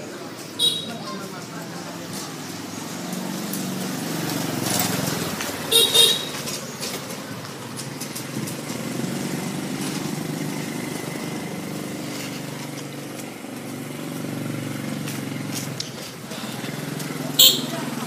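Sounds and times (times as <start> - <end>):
motorbike engine running: 0.0 - 18.0.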